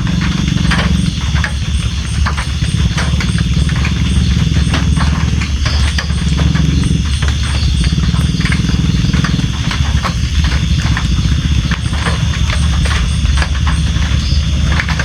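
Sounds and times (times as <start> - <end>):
low rumble of rain: 0.0 - 15.0
sharp taps of raindrops: 0.0 - 15.0.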